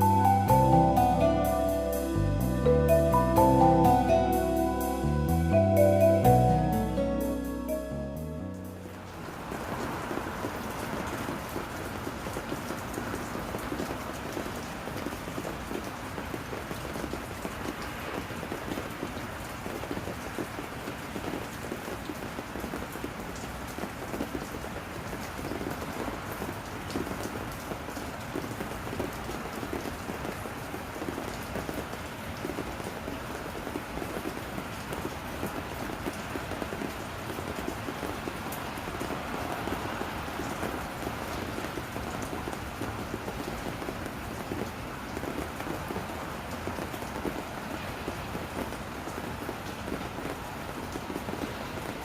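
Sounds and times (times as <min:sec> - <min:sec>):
rain patter: 0:00.0 - 0:52.0.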